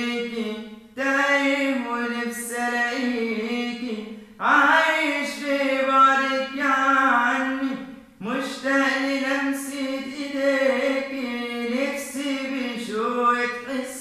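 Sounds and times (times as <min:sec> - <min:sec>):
man singing a cappella: 0:00.0 - 0:14.0.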